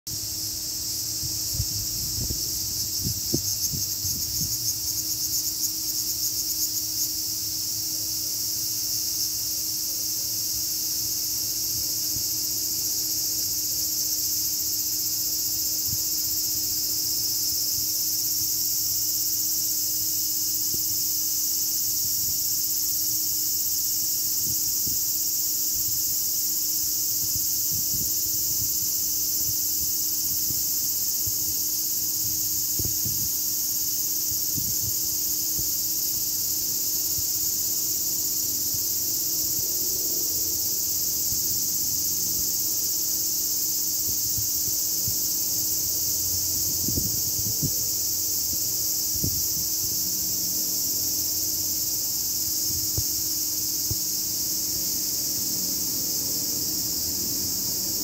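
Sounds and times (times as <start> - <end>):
cicadas singing: 0.1 - 58.0.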